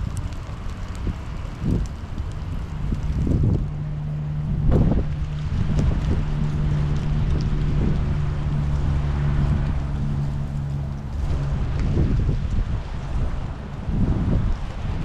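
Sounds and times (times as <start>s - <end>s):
steady low hum: 0.0s - 14.8s
steady rain: 0.0s - 15.0s
wind rumble on microphone: 0.0s - 15.0s.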